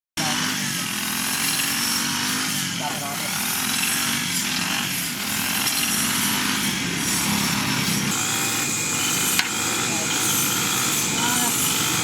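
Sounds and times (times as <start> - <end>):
power tool running: 0.2 - 12.0.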